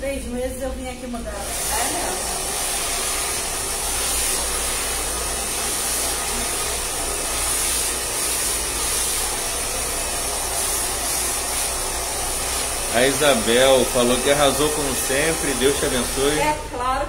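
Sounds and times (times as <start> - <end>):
hair dryer running: 1.2 - 16.9.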